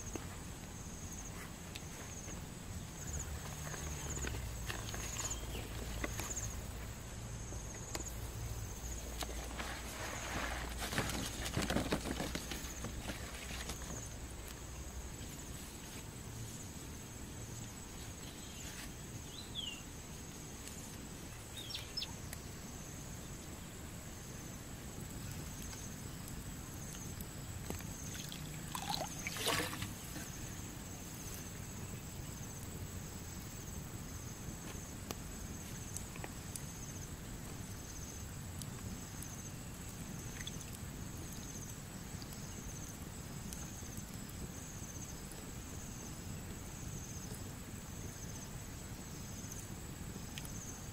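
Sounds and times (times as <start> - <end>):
insect drone: 0.0 - 50.9.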